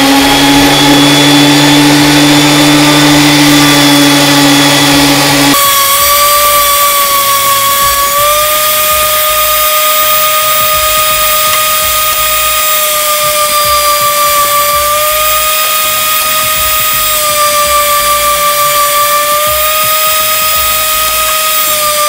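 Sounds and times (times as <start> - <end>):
thickness planer motor whine: 0.0 - 22.0.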